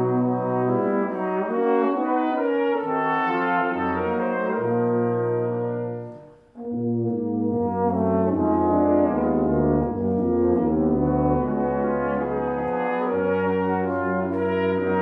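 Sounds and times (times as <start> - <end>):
brass ensemble playing chords: 0.0 - 15.0.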